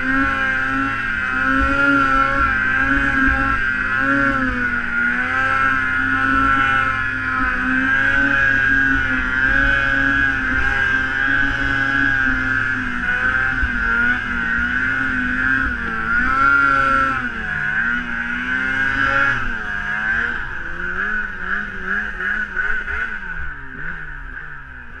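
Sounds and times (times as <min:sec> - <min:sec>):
snowmobile engine revving: 0:00.0 - 0:25.0.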